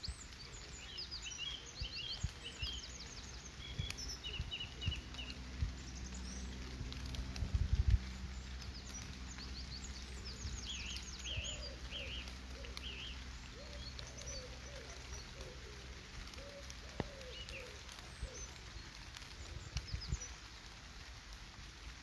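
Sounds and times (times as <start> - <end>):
birds chirping and whistling: 0.0 - 20.6
low rumble: 0.0 - 21.1.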